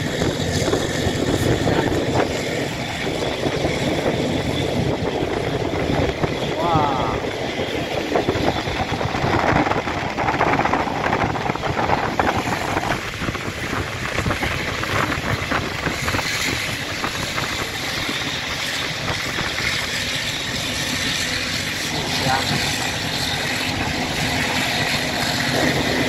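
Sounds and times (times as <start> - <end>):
train rumbling on track: 0.0 - 26.0
wind rushing over microphone: 0.0 - 26.0.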